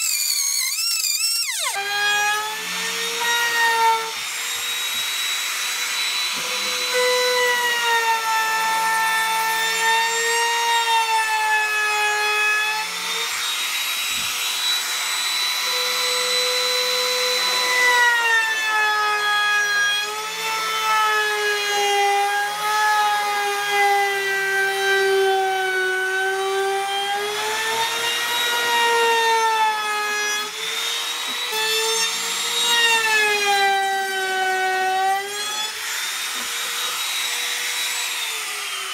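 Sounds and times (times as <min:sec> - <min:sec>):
router whining cutting wood: 0:00.0 - 0:38.9.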